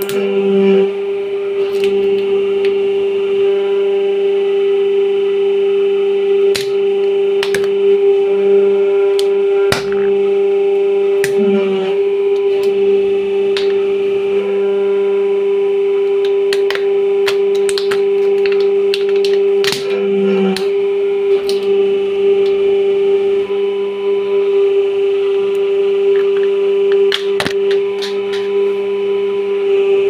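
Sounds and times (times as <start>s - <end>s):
hydraulic press humming whine: 0.0s - 30.0s.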